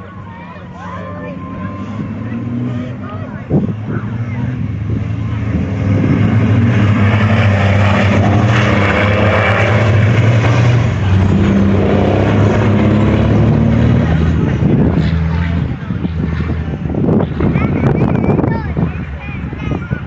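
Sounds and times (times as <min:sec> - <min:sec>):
truck diesel engines accelerating: 0:00.0 - 0:20.0.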